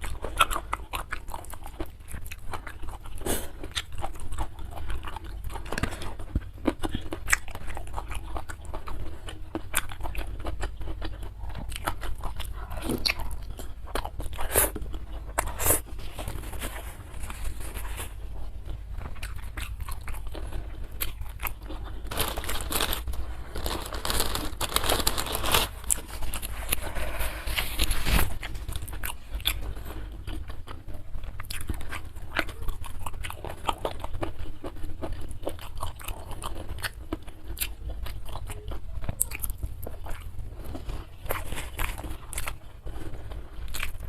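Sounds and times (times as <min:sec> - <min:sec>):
chewing crunchy food: 0:00.0 - 0:44.0.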